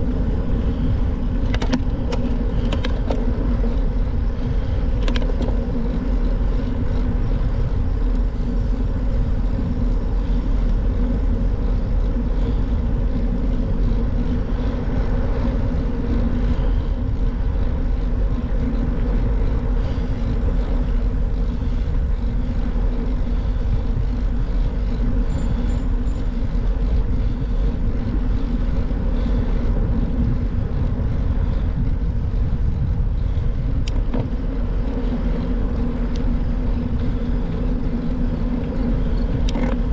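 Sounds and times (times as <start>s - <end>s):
constant low hum: 0.0s - 39.9s
road noise: 0.0s - 39.9s
wind rush: 0.0s - 39.9s.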